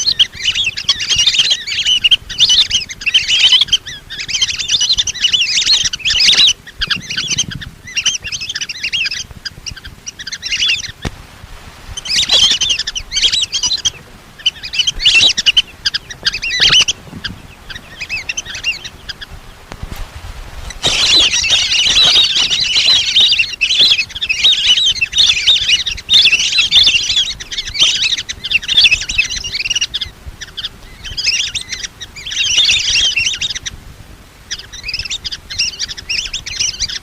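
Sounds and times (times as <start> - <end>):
ducks whistling calls: 0.0 - 11.2, 11.8 - 37.0.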